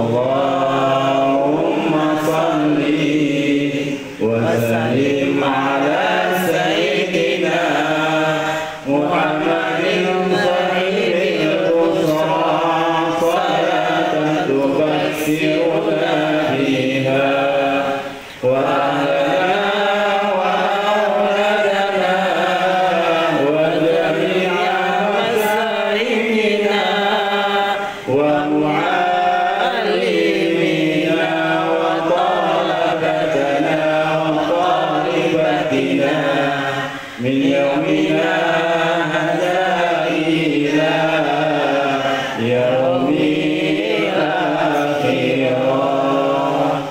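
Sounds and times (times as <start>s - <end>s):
man chanting over loudspeaker: 0.0s - 46.9s.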